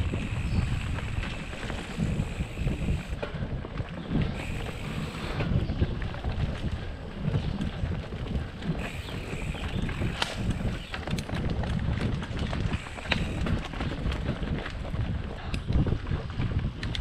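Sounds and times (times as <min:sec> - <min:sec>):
bike rattling knocks and clicks: 0:00.0 - 0:17.0
wind buffeting microphone: 0:00.0 - 0:17.0.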